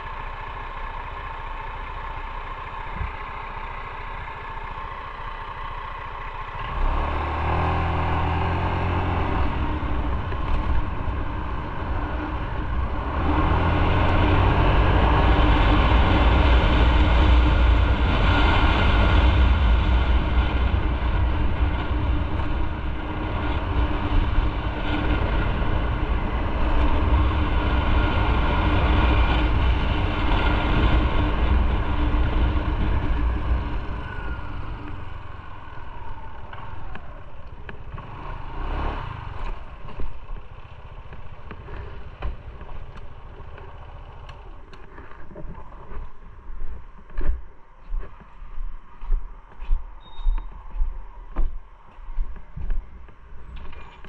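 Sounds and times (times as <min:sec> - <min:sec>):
motorcycle riding rumble: 0:00.0 - 0:54.0.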